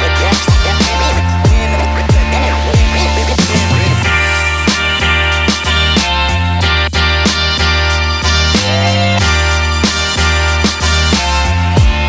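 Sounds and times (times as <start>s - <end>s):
background music with guitar: 0.0s - 12.0s.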